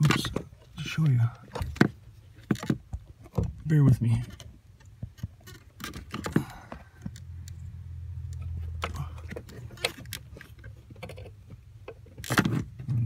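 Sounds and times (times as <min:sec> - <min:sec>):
low steady rumble: 0:00.2 - 0:13.0.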